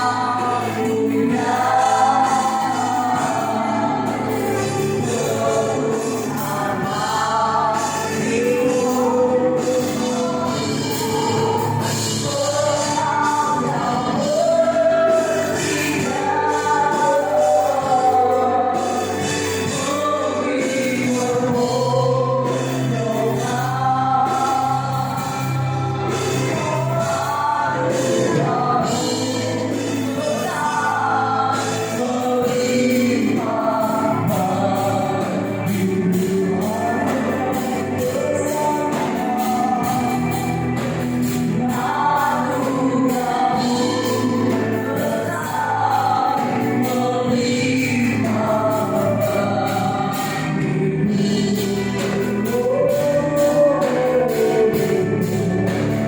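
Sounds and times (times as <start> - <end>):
instrumental accompaniment with bass: 0.0 - 56.0
voices singing gospel song: 0.0 - 56.0.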